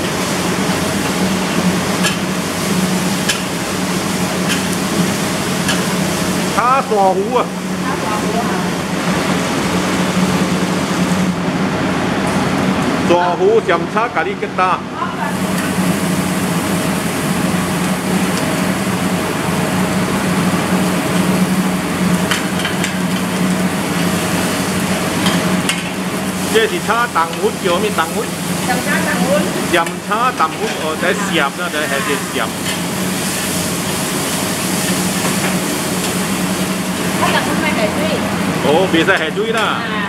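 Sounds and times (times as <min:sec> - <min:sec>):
gas burner rushing: 0:00.0 - 0:40.0.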